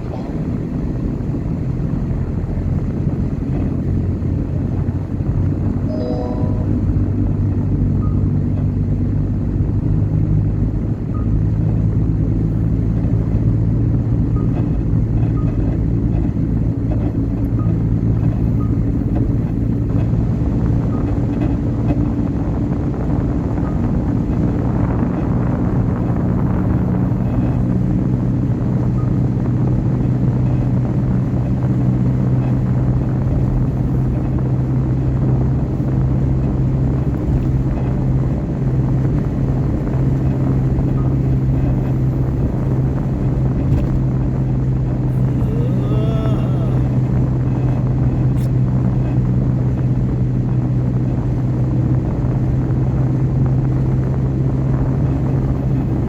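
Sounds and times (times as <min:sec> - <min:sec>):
car engine and tyre noise: 0:00.0 - 0:05.9, 0:07.8 - 0:45.5, 0:46.8 - 0:56.0.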